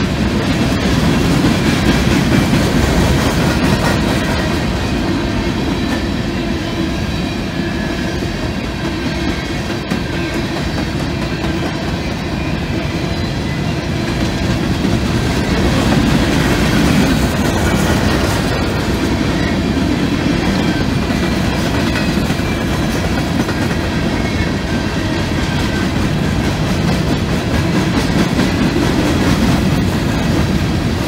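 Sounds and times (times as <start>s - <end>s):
freight train rumble: 0.0s - 31.0s.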